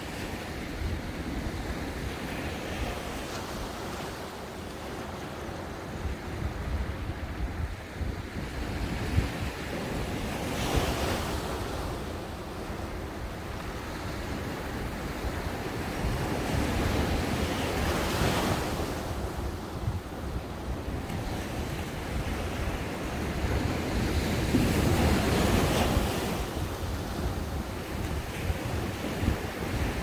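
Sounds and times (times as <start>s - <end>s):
wind buffeting microphone: 5.8s - 30.0s.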